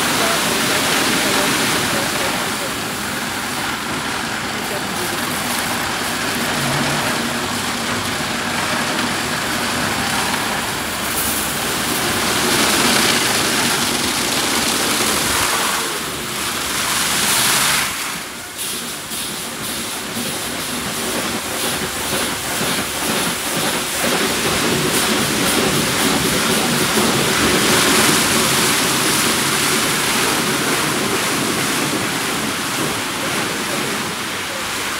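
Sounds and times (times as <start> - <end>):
rotating car wash brushes: 0.0 - 34.9
water spray rushing: 0.0 - 34.9.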